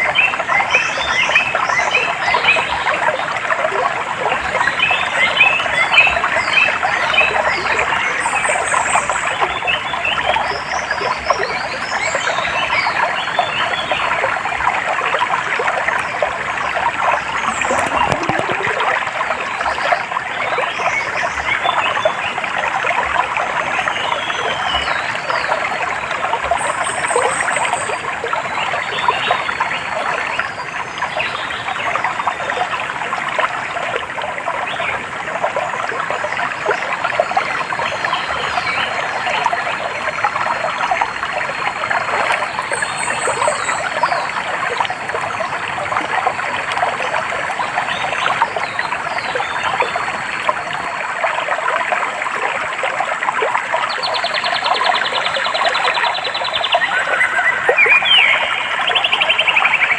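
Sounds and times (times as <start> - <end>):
stream water babbling: 0.0 - 59.9.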